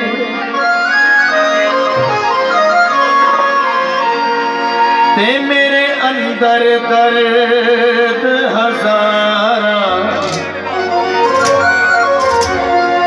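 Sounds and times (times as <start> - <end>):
sustained instrumental accompaniment: 0.0 - 13.0.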